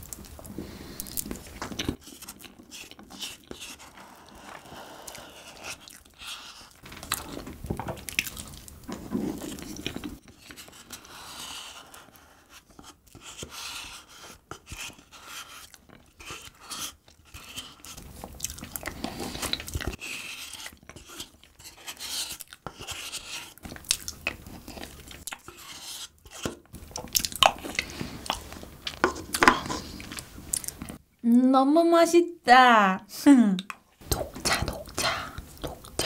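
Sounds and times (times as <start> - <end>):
close chewing and mouth sounds: 0.0 - 11.0, 12.8 - 31.0, 33.6 - 36.0.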